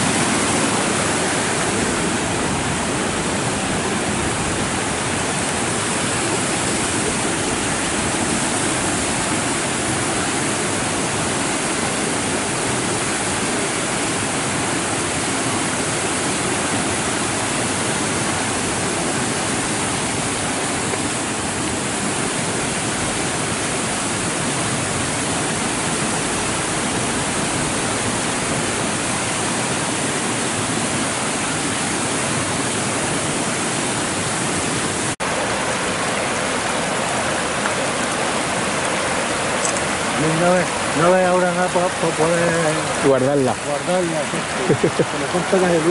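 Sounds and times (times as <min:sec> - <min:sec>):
water cascading over rocks: 0:00.0 - 0:45.9.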